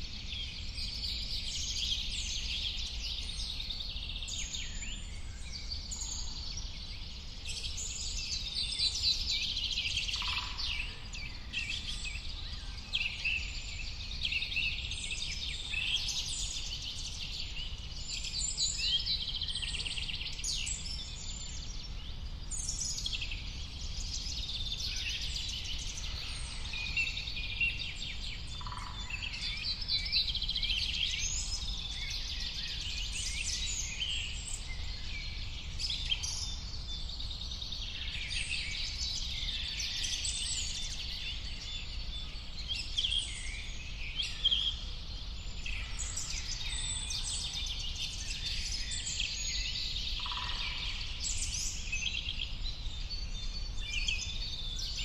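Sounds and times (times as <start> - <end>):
birds chirping and singing: 0.3 - 55.0.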